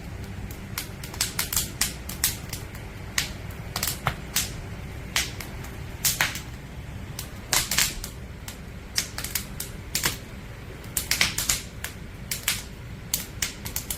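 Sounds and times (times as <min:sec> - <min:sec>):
campfire crackling and popping: 0:00.0 - 0:13.9
low steady fire rumble: 0:00.0 - 0:13.9.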